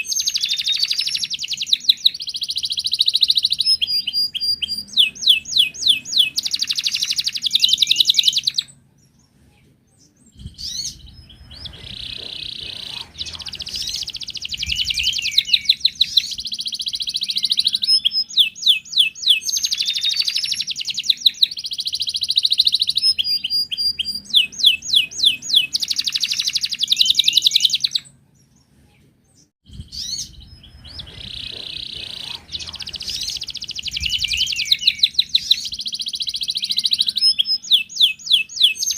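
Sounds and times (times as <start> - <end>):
canary singing trills: 0.0 - 28.7, 29.3 - 38.9.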